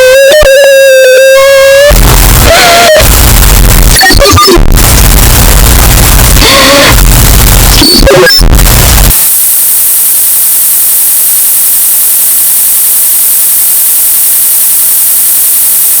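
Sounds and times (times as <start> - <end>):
distorted noise with wavering tones: 0.0 - 16.0
harsh high-pitched static hiss: 0.0 - 16.0.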